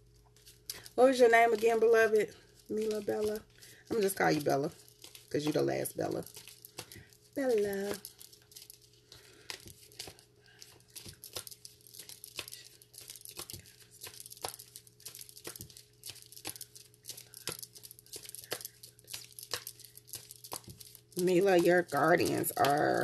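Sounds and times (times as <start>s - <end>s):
cards being shuffled: 0.3s - 23.0s.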